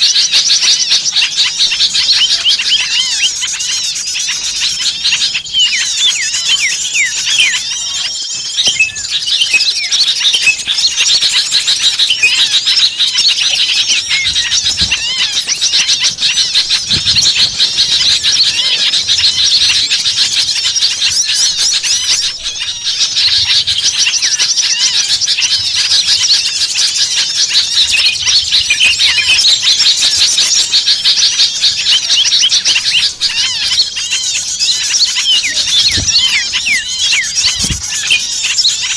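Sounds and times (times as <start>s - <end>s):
small songbirds chirping chorus: 0.0s - 38.9s.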